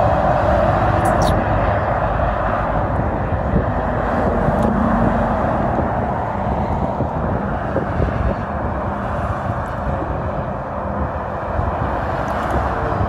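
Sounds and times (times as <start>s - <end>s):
lorry engine drone: 0.0s - 13.0s
road traffic passing: 0.0s - 13.0s.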